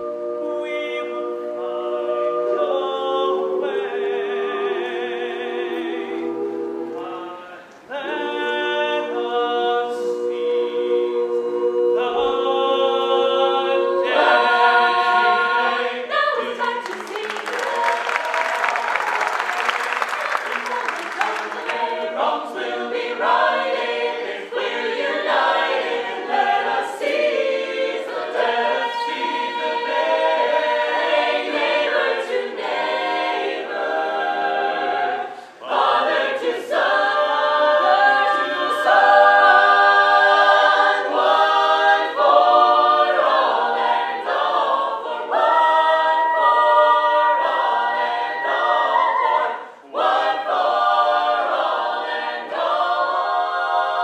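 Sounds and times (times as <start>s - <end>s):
a cappella ensemble singing: 0.0s - 54.0s.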